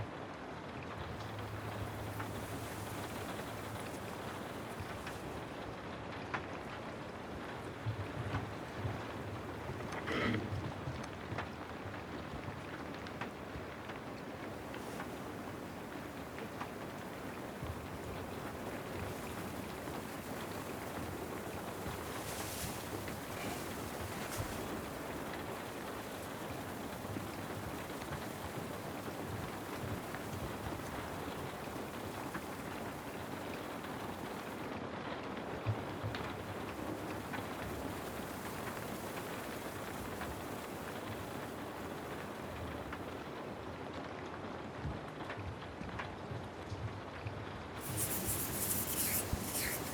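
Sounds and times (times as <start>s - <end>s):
rain falling: 1.0s - 5.8s, 6.5s - 34.7s, 35.4s - 43.7s
faint ticks: 1.1s - 5.6s, 7.3s - 34.7s, 35.5s - 43.4s, 47.8s - 49.9s.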